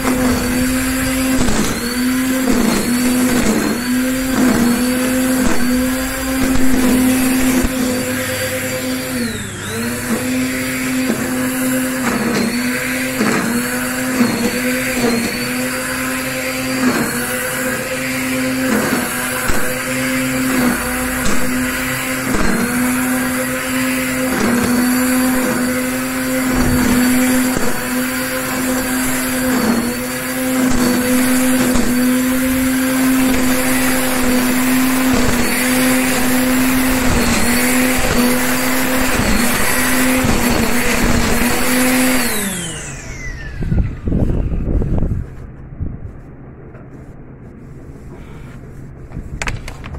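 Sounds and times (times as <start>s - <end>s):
electric string trimmer whining: 0.0s - 45.7s.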